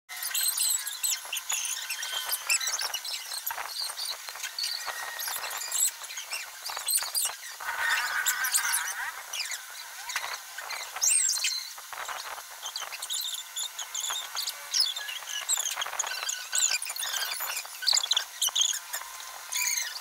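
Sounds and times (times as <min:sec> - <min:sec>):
birds chirping and calling: 0:00.2 - 0:20.0.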